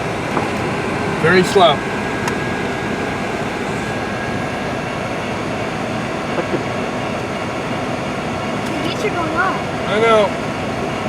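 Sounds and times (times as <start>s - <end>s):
freight train rolling: 0.0s - 11.0s.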